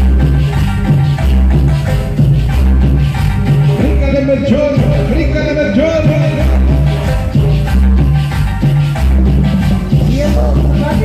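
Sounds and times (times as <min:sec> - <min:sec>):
latin dance music: 0:00.0 - 0:11.0.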